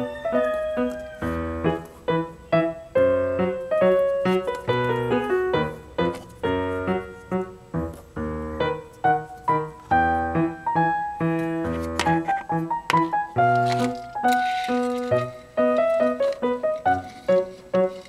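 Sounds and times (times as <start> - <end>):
piano bass notes: 0.0 - 18.0
piano melody: 0.0 - 18.0.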